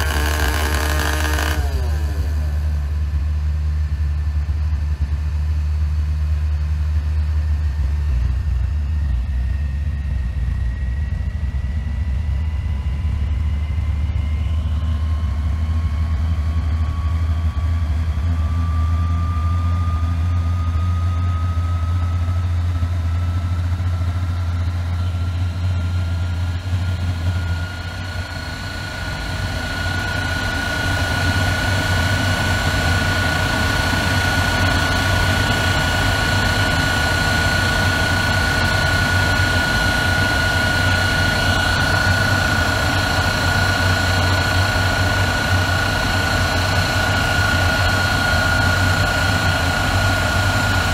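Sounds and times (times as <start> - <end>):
turbojet engine running up: 0.0 - 50.9.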